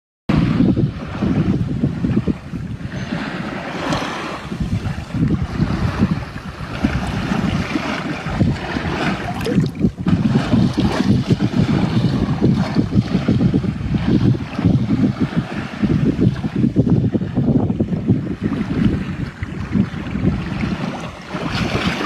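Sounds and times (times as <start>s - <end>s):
wind buffeting microphone: 0.3s - 22.0s.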